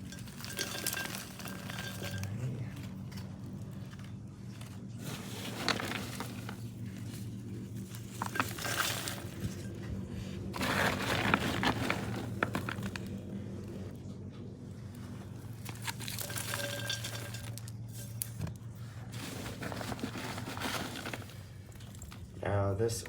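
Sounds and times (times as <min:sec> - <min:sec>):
potting mix scraping and crunching: 0:00.0 - 0:23.0.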